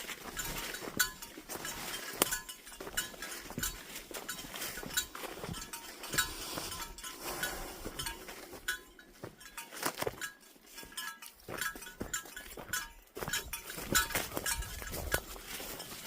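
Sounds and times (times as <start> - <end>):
footsteps on forest trail: 0.0 - 16.0
metallic clinking and jingling: 0.0 - 16.0.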